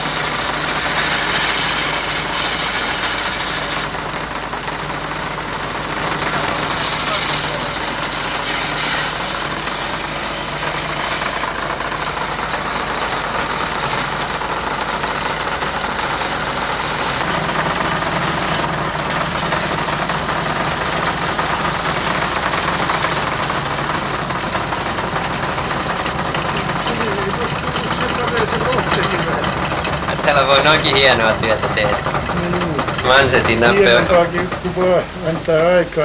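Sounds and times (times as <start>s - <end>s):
chisel cutting spinning wood: 0.0s - 36.0s
wood lathe running: 0.0s - 36.0s.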